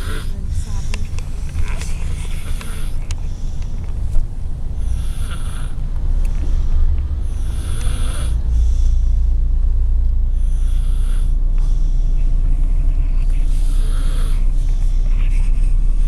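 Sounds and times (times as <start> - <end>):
toddler snoring: 0.0 - 3.6, 4.7 - 9.0, 10.4 - 16.0
car road noise rumble: 0.0 - 16.0.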